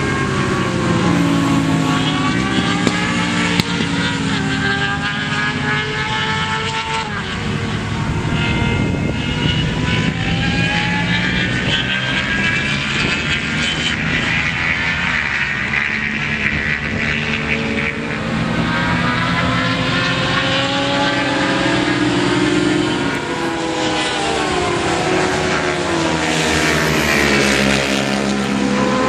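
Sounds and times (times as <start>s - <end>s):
racing motorcycle engines: 0.0s - 29.0s.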